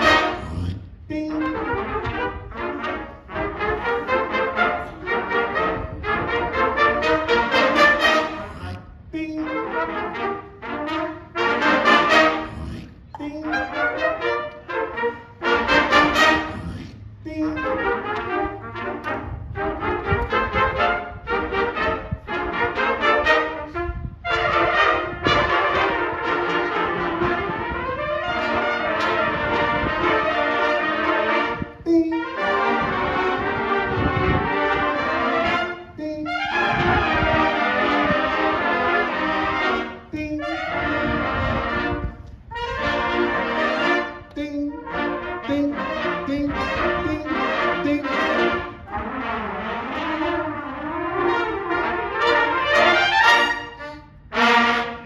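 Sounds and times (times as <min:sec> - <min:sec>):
trumpet ensemble playing: 0:00.0 - 0:55.0.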